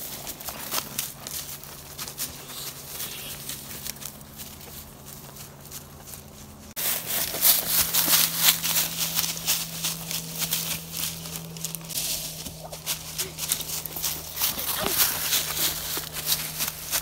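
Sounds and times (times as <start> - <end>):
running footsteps on dry leaves: 0.0 - 17.0.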